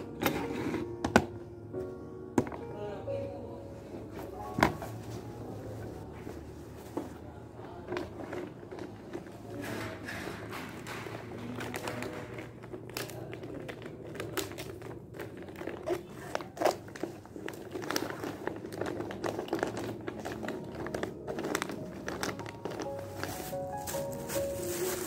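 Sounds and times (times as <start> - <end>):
paper and plastic rustling: 4.2 - 25.0.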